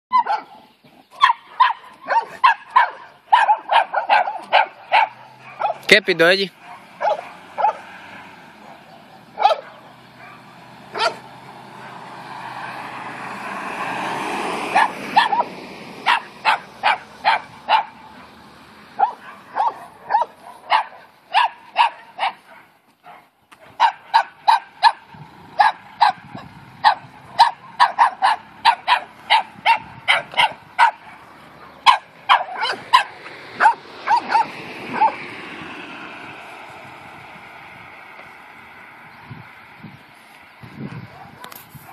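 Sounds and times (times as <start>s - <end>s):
dogs barking: 0.1s - 5.9s, 6.5s - 36.0s, 41.0s - 41.9s.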